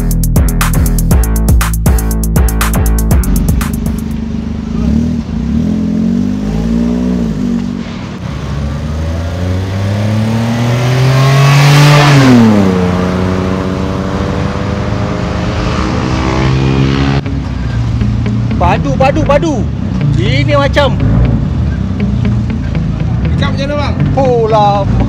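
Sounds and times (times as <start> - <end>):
car engine accelerating: 2.5 - 25.0.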